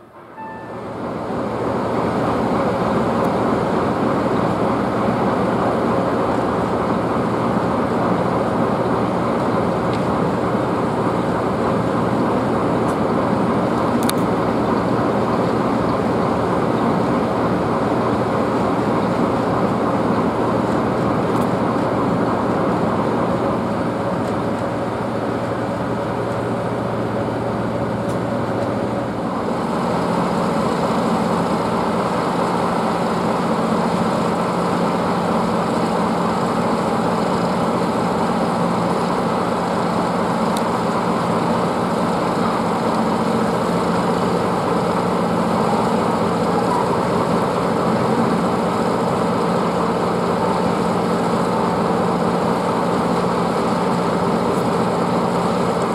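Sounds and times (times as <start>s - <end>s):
machinery humming: 0.0s - 55.9s.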